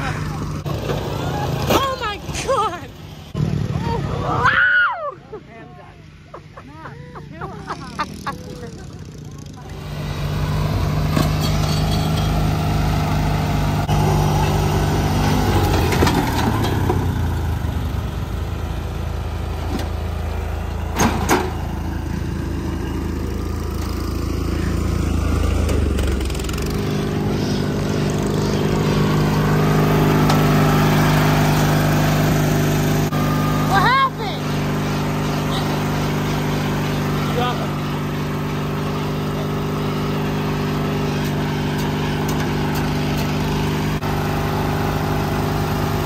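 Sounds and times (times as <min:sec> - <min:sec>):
riding lawn mower engine: 0:00.0 - 0:46.0.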